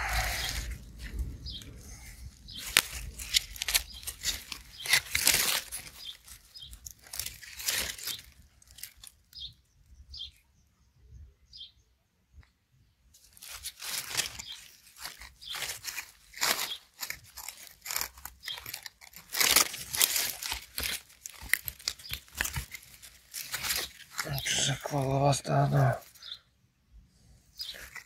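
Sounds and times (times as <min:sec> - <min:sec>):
hand digging through wood-chip mulch: 0:00.0 - 0:09.2, 0:13.2 - 0:26.4, 0:27.6 - 0:28.0.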